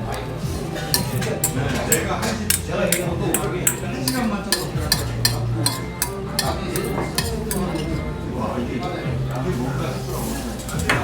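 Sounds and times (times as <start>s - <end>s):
faint murmur of voices: 0.0s - 11.0s
utensils scraping a dish: 0.6s - 8.5s, 9.5s - 11.0s.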